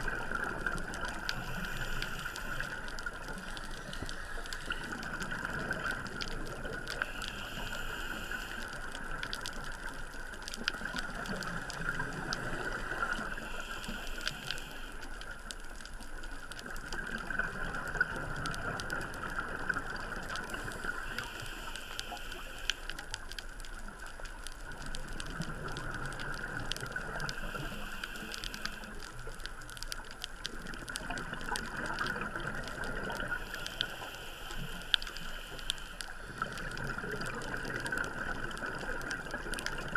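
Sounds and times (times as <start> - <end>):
underwater water hiss: 0.0 - 15.5, 16.9 - 23.4, 24.7 - 30.0, 31.0 - 39.9
faint clicks: 0.0 - 39.9.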